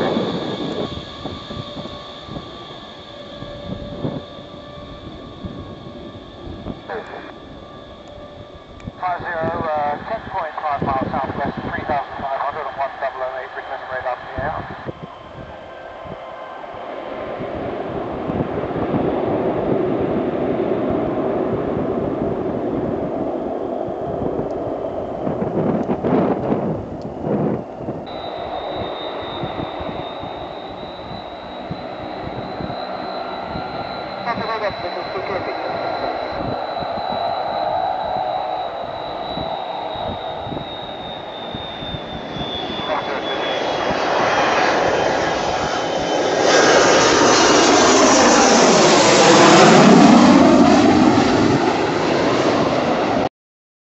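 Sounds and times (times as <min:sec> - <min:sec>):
turboprop engines droning: 0:00.0 - 0:53.3.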